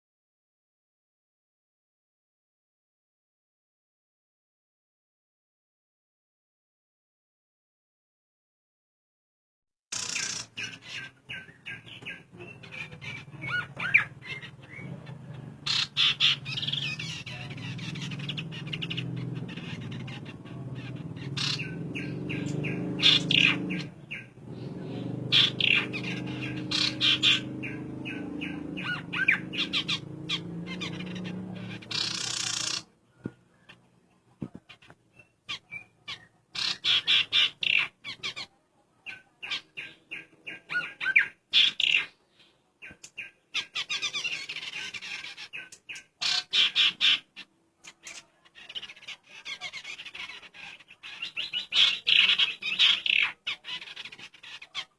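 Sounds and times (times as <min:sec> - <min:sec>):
birds calling with rapid notes: 0:09.9 - 0:54.9.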